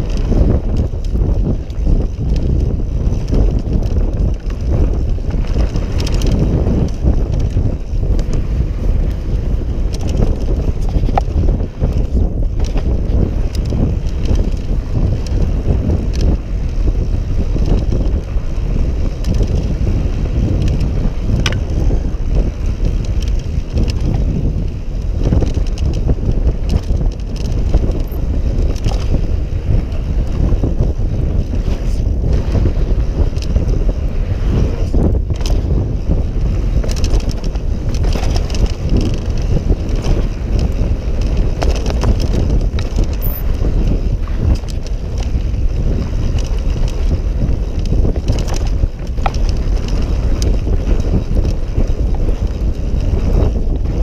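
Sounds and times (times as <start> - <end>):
bike clicks and rattles: 0.0 - 54.0
bike tyres rolling on dirt: 0.0 - 54.0
wind buffeting microphone: 0.0 - 54.0.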